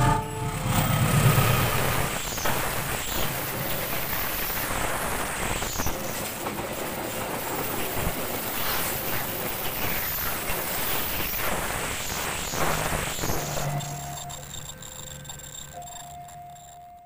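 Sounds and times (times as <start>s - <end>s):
train wheels rushing on rails: 0.0s - 16.8s.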